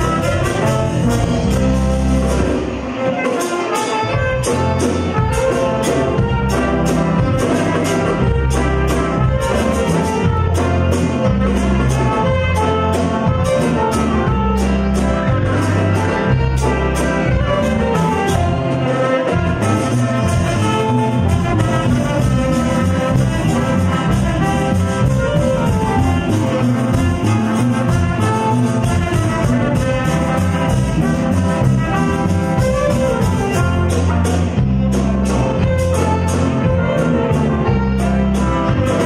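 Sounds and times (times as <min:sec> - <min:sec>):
bass line: 0:00.0 - 0:39.0
drum kit beat: 0:00.0 - 0:39.0
guitar: 0:00.0 - 0:39.0
keyboard: 0:00.0 - 0:39.0
saxophones playing melody: 0:00.0 - 0:39.0.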